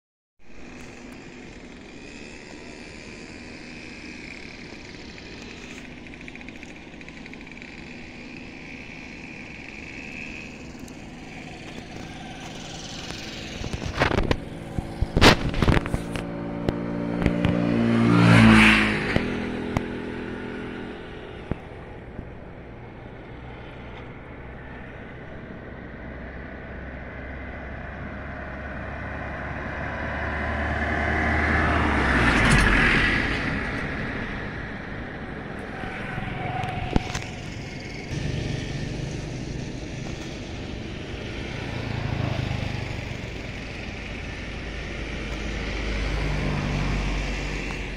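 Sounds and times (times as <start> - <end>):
vehicle approaching: 0.5 - 47.9
motor vehicle passing: 0.7 - 47.9.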